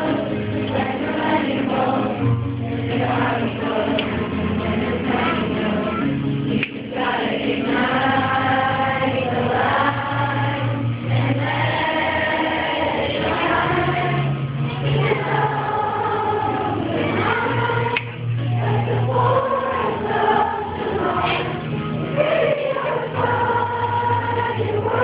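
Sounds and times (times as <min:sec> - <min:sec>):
group singing: 0:00.0 - 0:25.0.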